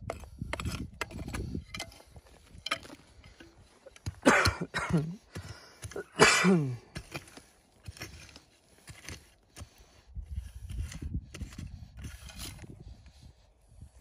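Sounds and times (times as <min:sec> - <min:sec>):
hand pick striking stony soil: 0:00.0 - 0:09.8, 0:10.4 - 0:12.7.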